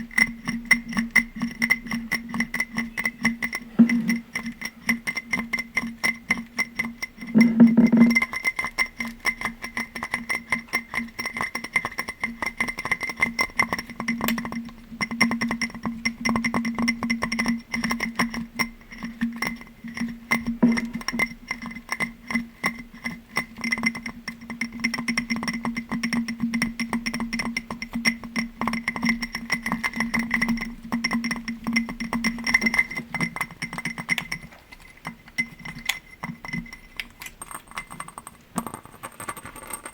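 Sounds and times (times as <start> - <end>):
glass ringing tone: 0.0 - 39.9
rapid tapping on glass: 0.0 - 39.9.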